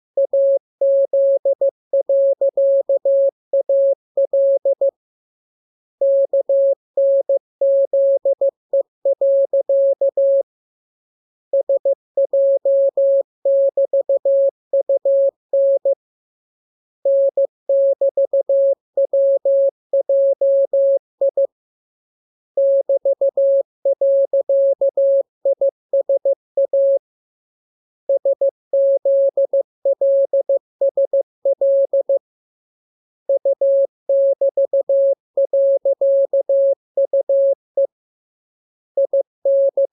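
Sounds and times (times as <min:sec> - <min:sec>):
morse code beeps: 0:00.2 - 0:04.9, 0:06.0 - 0:10.4, 0:11.6 - 0:16.0, 0:17.1 - 0:21.5, 0:22.6 - 0:27.0, 0:28.1 - 0:32.2, 0:33.3 - 0:37.9, 0:39.0 - 0:39.9.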